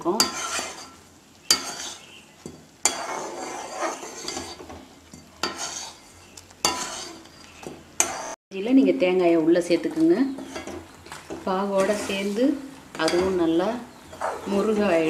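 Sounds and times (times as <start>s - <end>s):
metal spoon scraping pan: 0.1s - 8.4s, 10.3s - 15.0s.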